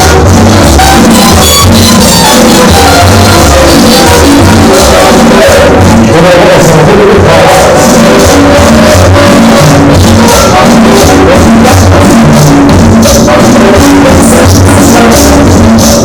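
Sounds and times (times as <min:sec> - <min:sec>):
loud music over sound system: 0:00.0 - 0:16.0.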